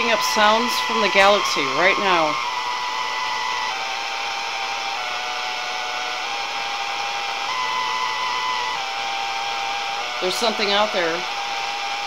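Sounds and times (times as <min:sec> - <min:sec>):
high whistling tones: 0:00.0 - 0:12.0
radio static hiss: 0:00.0 - 0:12.0.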